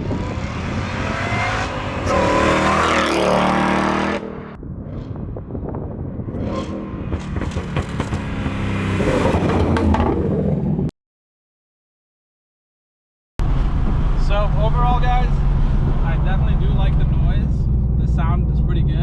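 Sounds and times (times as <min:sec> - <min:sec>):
car engine revving: 0:00.0 - 0:10.9, 0:13.4 - 0:19.0.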